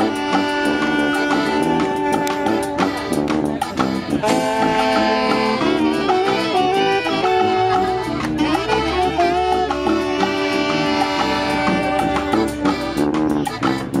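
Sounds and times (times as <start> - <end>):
drums keeping a beat: 0.0 - 14.0
saxophones and horns playing: 0.0 - 14.0.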